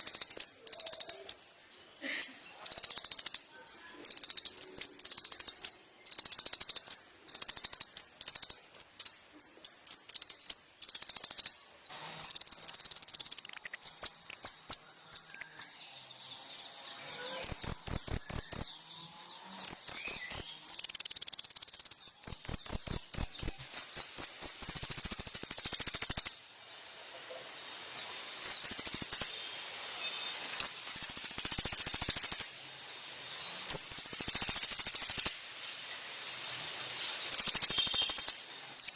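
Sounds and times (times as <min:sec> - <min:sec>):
sunbird trilling and chirping: 0:00.0 - 0:27.1, 0:28.0 - 0:38.9.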